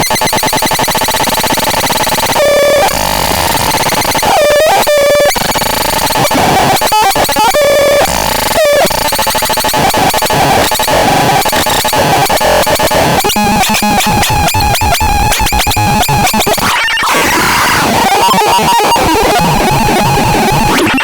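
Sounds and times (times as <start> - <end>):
synthesizer harsh noise: 0.0 - 21.0.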